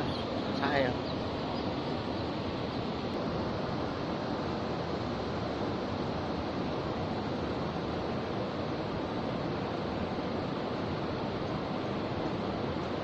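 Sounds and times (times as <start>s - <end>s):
shallow river water rushing: 0.0s - 13.0s.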